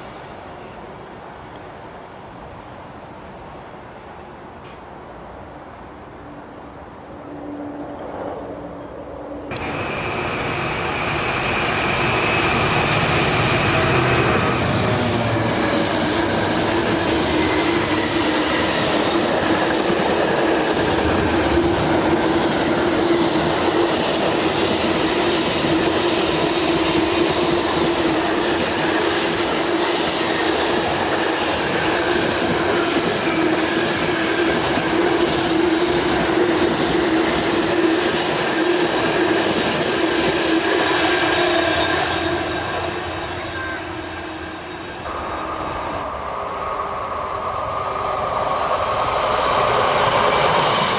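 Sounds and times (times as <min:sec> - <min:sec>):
train passing: 0:00.0 - 0:50.9.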